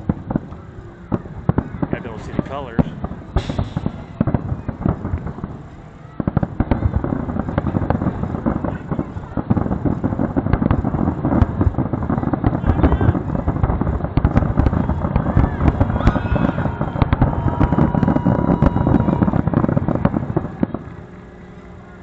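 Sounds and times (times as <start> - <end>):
fireworks crackling: 0.0 - 21.8
firework shell bursts: 1.2 - 20.3.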